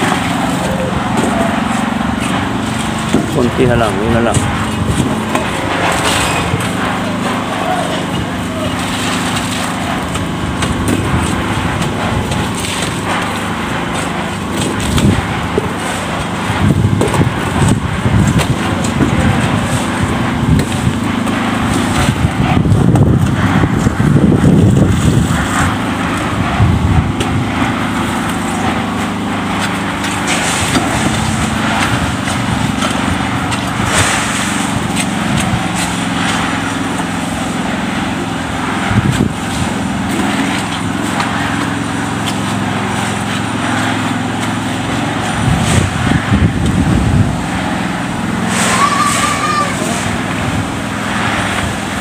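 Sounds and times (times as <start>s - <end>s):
knocks and clatter: 0.0s - 47.8s
engine running: 0.0s - 52.0s.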